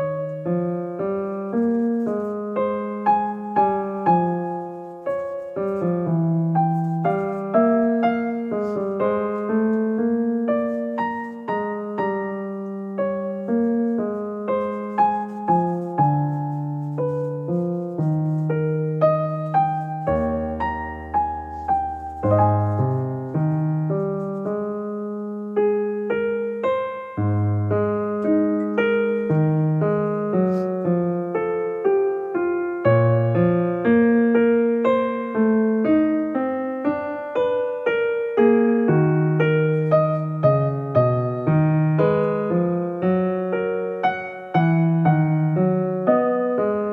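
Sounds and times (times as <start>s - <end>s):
piano music: 0.0s - 46.9s.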